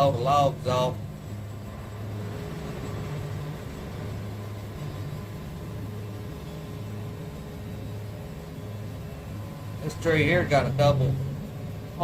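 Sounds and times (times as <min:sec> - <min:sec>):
faint steady whine: 0:00.0 - 0:12.0
sawmill mechanical hum: 0:00.0 - 0:12.0.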